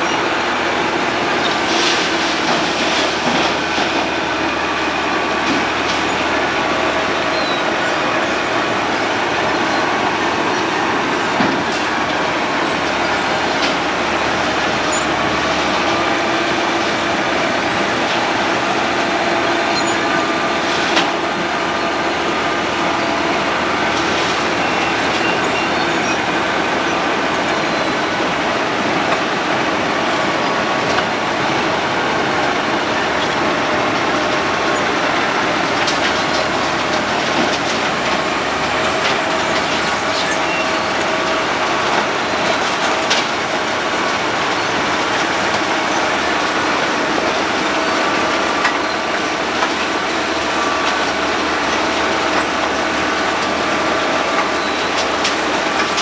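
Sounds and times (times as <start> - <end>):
road milling machine grinding: 0.0 - 56.0.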